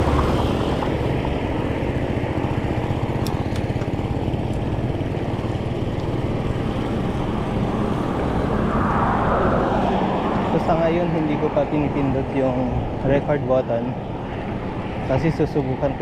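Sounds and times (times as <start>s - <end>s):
bike tyre and road noise: 0.0s - 16.0s.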